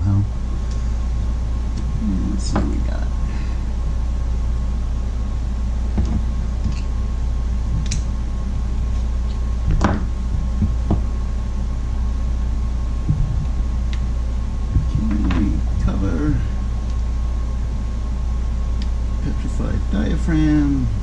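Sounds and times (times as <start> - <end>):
steady low hum with high tone: 0.0 - 21.0.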